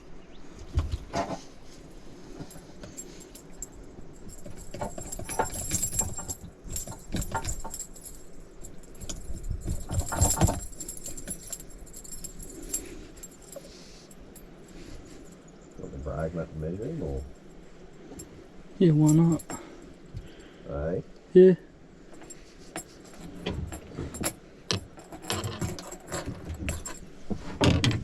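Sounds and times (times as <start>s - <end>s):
fishing gear jangling: 1.0s - 15.8s, 16.8s - 20.6s, 22.0s - 28.0s.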